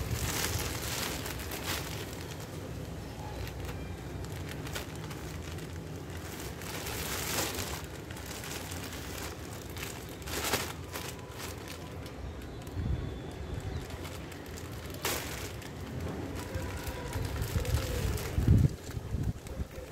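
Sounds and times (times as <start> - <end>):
plastic mailer bag crinkling: 0.0 - 19.9.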